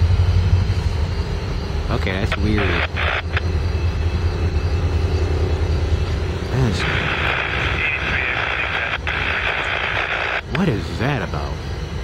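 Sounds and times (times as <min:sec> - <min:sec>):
diesel locomotives idling: 0:00.0 - 0:12.0.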